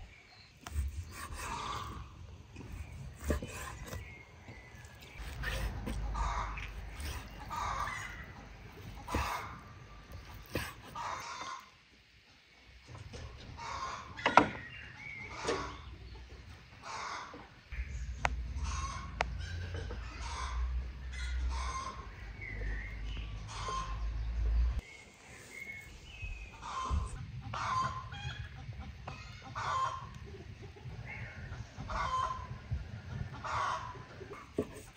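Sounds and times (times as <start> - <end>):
chickens clucking: 0.7 - 24.6, 26.4 - 34.9.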